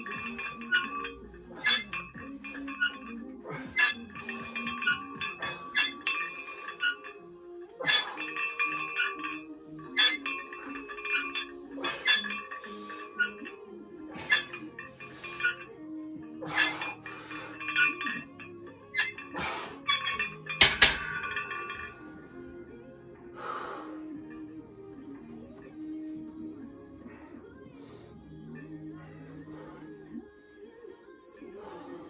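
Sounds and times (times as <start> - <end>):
weight plates clinking: 0.0 - 30.0
background music: 0.0 - 32.0.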